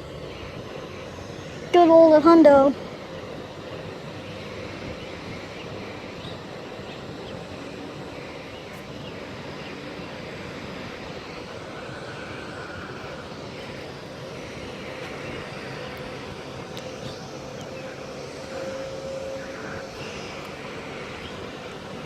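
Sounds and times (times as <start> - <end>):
jet engines idling: 0.0 - 22.0.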